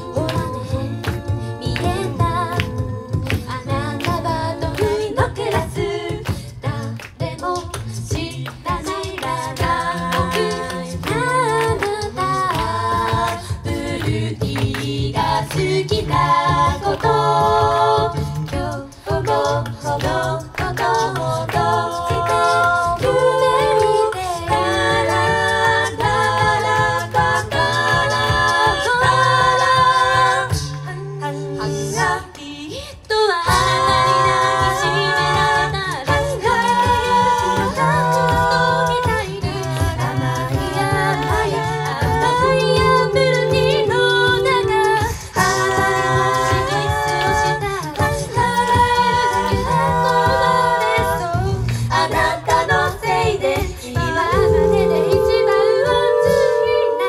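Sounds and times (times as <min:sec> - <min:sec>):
a cappella group singing: 0:00.0 - 0:57.0
vocal percussive beat: 0:00.0 - 0:57.0.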